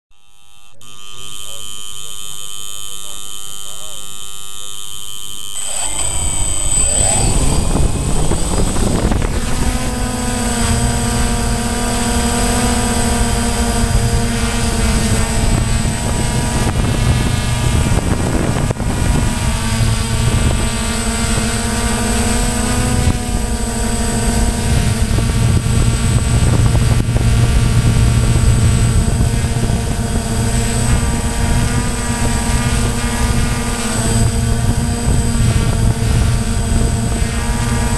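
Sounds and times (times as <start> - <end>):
drone propellers buzzing: 0.3 - 37.9.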